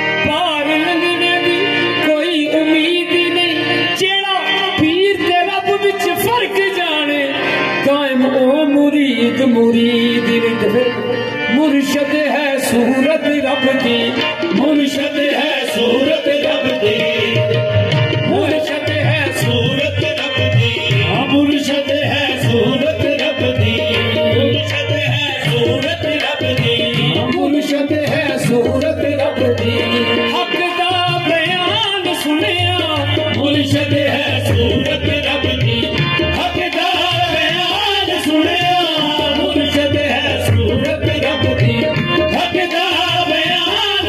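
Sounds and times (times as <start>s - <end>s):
harmonium melody: 0.0s - 44.0s
men singing: 0.0s - 44.0s
tabla beat: 0.0s - 44.0s.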